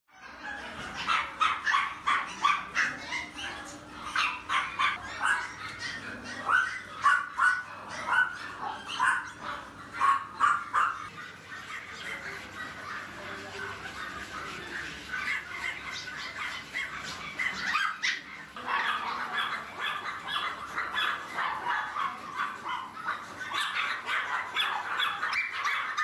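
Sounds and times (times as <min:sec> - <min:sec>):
small dogs yapping and barking: 0:00.1 - 0:26.0.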